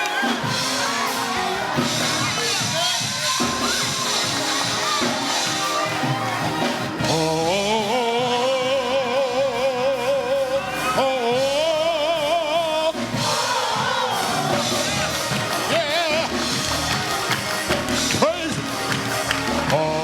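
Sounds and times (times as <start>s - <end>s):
gospel singing with vibrato: 0.0s - 20.0s
musical accompaniment: 0.0s - 20.0s.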